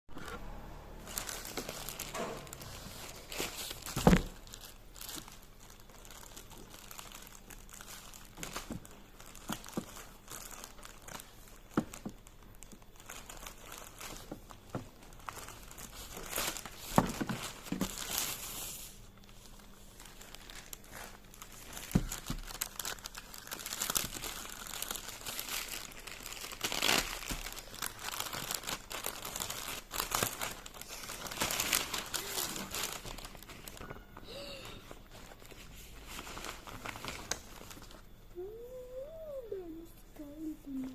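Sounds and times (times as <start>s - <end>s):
packaging crinkling and tearing: 0.2s - 38.2s.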